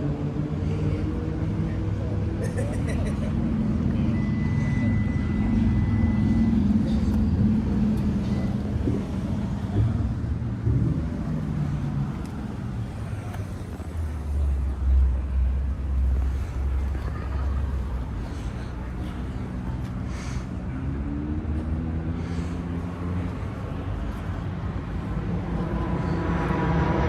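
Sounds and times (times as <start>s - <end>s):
car engines running: 0.0s - 27.0s.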